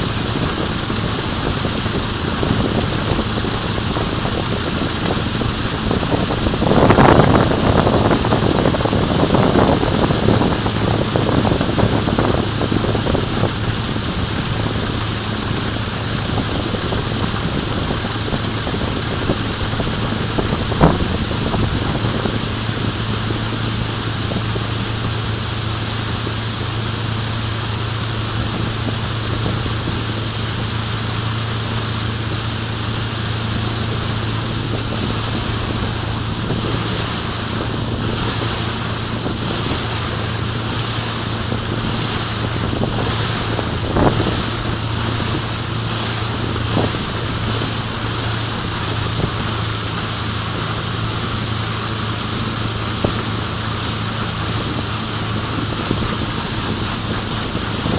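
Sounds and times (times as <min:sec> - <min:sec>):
constant rushing noise: 0:00.0 - 0:57.9
low hum: 0:00.0 - 0:57.9.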